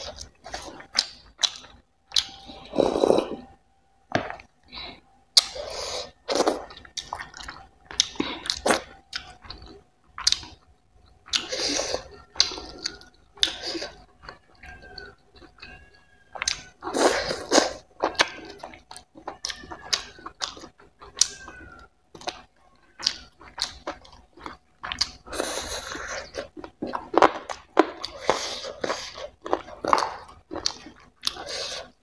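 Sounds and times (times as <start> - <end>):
chewing and wet mouth smacks: 6.3 - 32.0.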